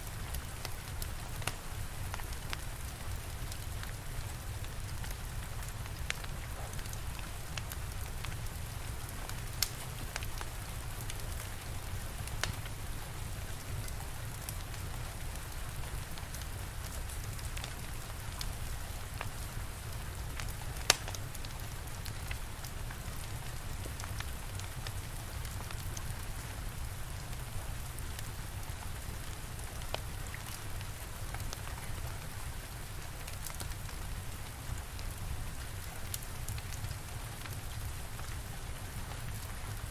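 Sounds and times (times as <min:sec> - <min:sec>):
steady rainfall: 0:00.0 - 0:39.9
wood fire crackling and popping: 0:00.1 - 0:39.9.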